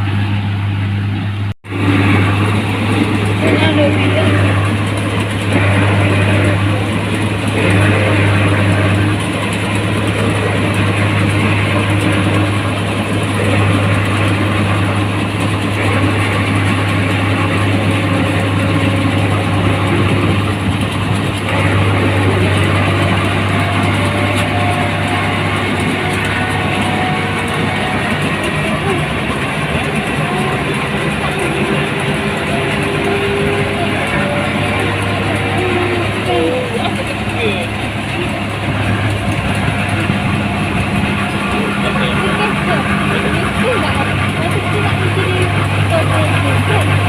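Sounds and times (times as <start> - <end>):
combine harvester engine drone: 0.0 - 47.0
dense mechanical noise: 0.0 - 47.0.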